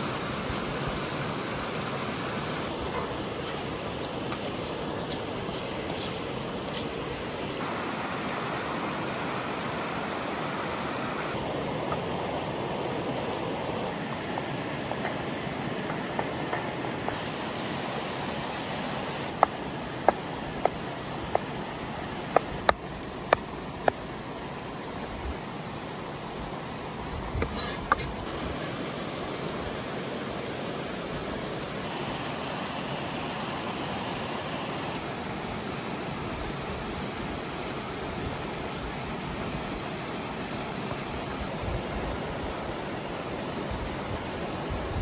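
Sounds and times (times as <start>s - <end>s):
sizzling hiss of cooking: 0.0s - 45.0s.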